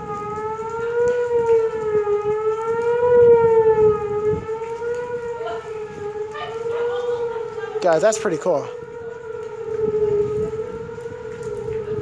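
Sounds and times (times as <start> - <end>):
warning siren wailing: 0.0 - 12.0.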